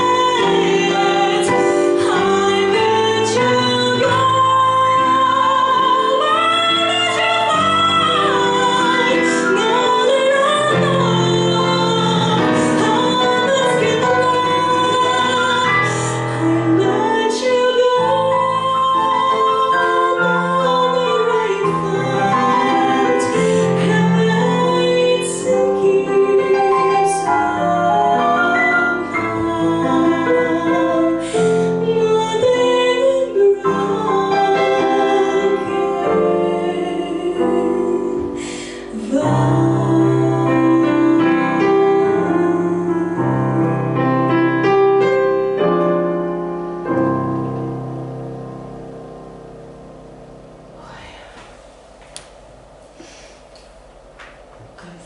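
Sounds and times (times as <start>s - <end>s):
woman singing jazz: 0.0s - 47.4s
piano chords: 0.0s - 55.0s.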